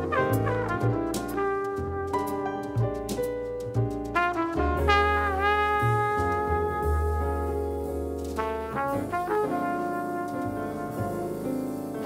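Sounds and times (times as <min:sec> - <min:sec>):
trumpet: 0:00.0 - 0:02.9, 0:04.2 - 0:12.0
piano: 0:00.0 - 0:12.0
upright bass: 0:00.0 - 0:12.0.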